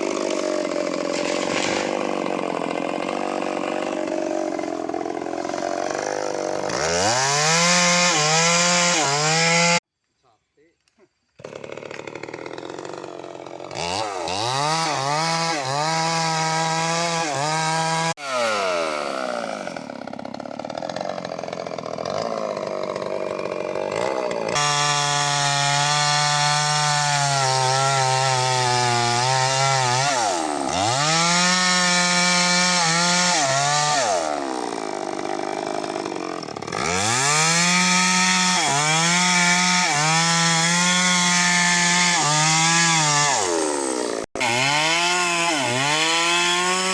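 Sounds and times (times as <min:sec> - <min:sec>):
chainsaw cutting wood: 0:00.0 - 0:09.9, 0:11.3 - 0:46.9.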